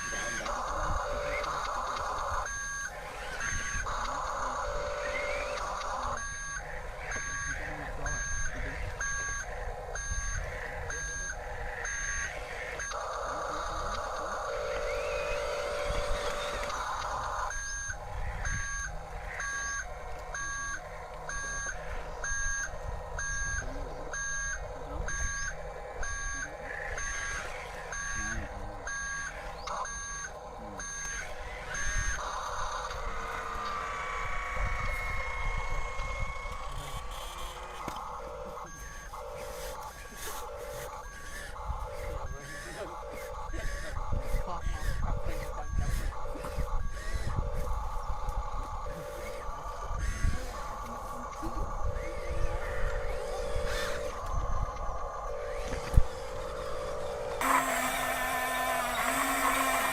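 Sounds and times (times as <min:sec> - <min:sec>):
electronic reversing beeper: 0:00.0 - 0:59.9.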